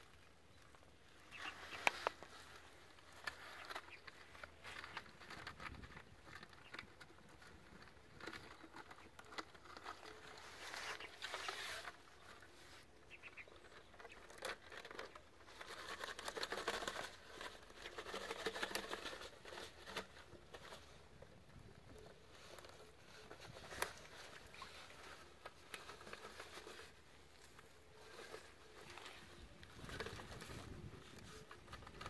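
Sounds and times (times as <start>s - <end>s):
wire mesh crinkling and scraping: 0.0s - 32.0s.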